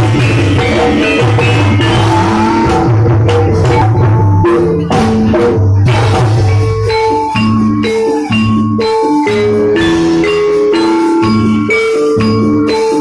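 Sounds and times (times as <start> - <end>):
pitched melodic notes: 0.0 - 13.0
steady drum beat: 0.0 - 13.0.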